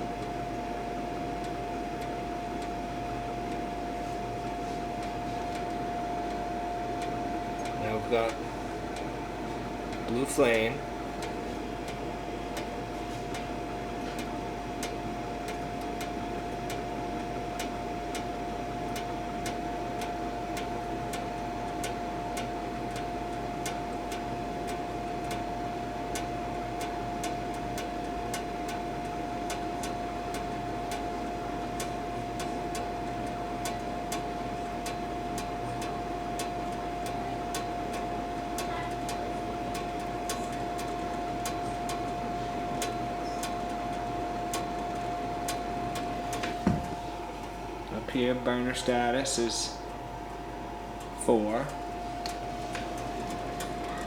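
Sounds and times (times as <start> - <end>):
heater blower whine: 0.0 - 54.0.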